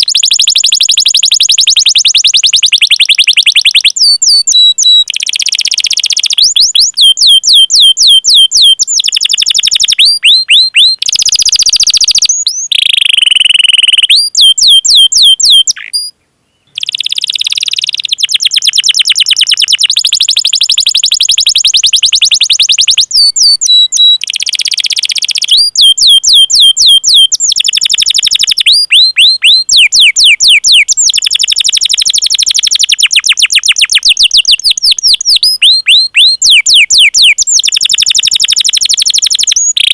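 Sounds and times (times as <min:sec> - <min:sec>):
canary singing rolled trills: 0:00.0 - 0:39.9.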